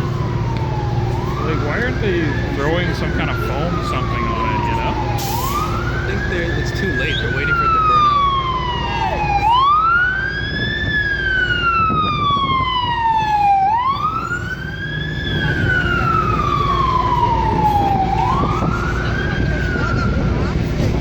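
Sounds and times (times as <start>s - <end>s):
emergency siren wailing: 0.0s - 21.0s
idling engines and traffic: 0.0s - 21.0s.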